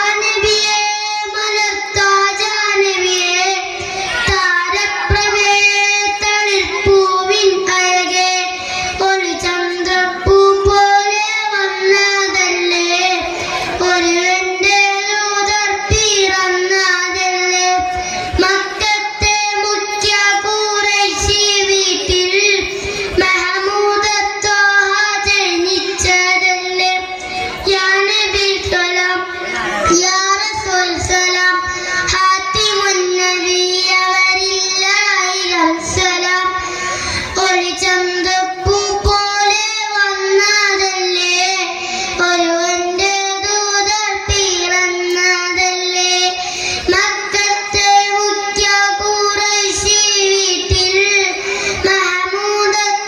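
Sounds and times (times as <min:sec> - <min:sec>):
boy singing into microphone: 0:00.0 - 0:53.0.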